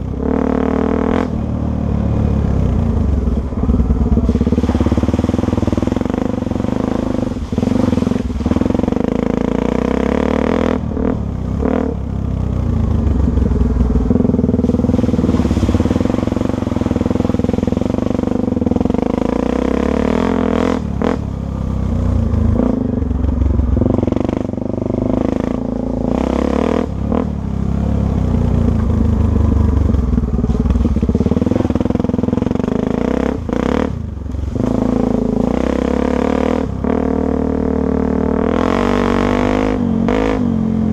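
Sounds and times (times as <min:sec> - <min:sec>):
dirt bike engine running hard: 0:00.0 - 0:40.9.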